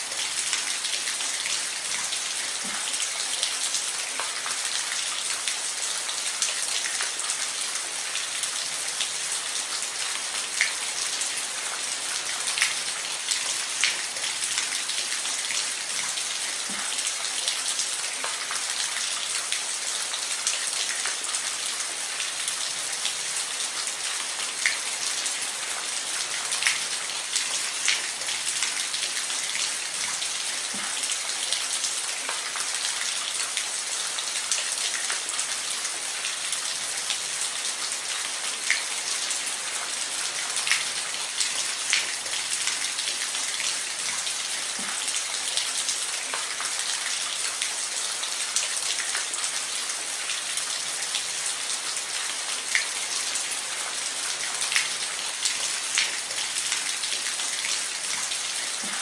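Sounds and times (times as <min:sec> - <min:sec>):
rain falling on a roof: 0:00.0 - 0:59.0.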